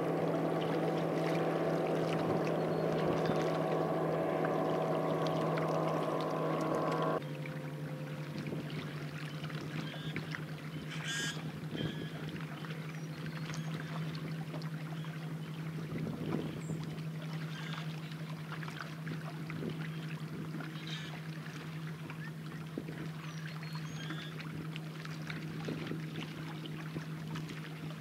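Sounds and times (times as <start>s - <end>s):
distant speedboat engine drone: 0.0s - 28.0s.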